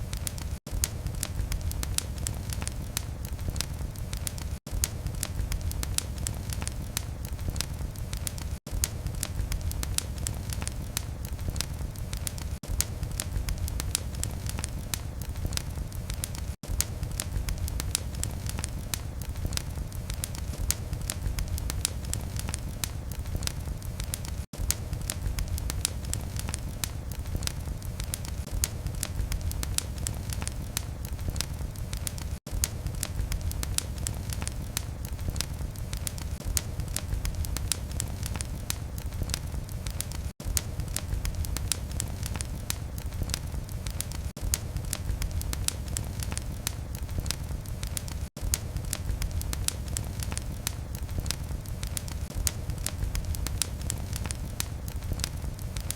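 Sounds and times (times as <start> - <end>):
low rumble of burning: 0.0 - 55.9
sharp pops and snaps: 0.0 - 55.9
wood fire crackling: 0.0 - 55.9.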